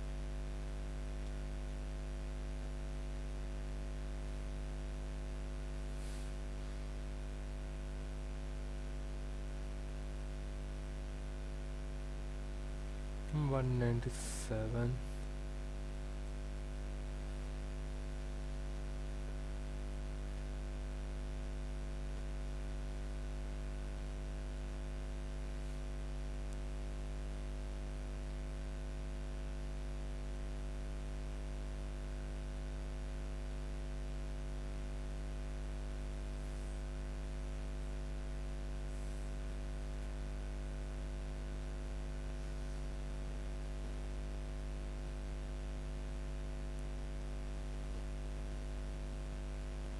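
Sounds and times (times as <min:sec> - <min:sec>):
low electrical hum with hiss: 0:00.0 - 0:49.9.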